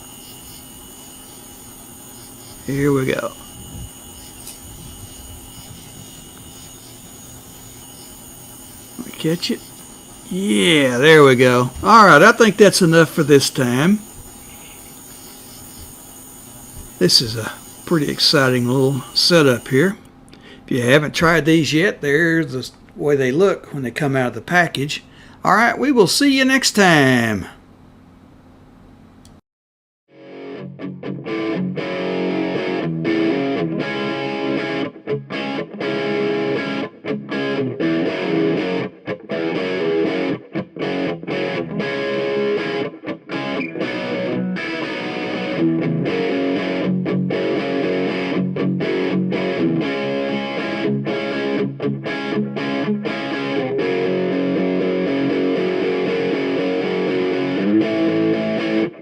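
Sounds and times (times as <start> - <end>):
distorted electric guitar rock: 0.0 - 25.4, 30.2 - 59.0.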